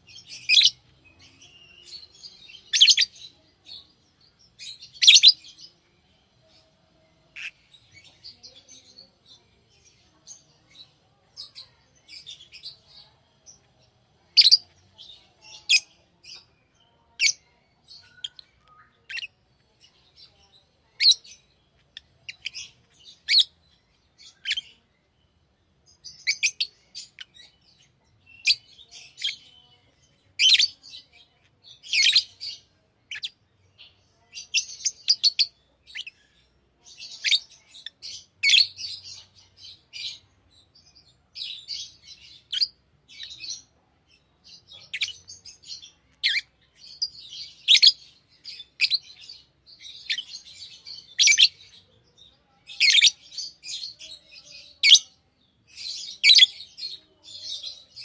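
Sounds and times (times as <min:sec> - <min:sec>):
lovebirds chirping: 0:00.0 - 0:58.0.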